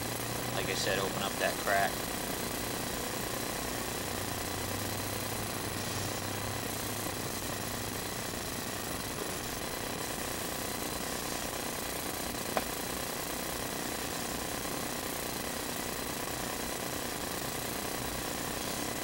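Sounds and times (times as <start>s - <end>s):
motor running: 0.0s - 19.0s.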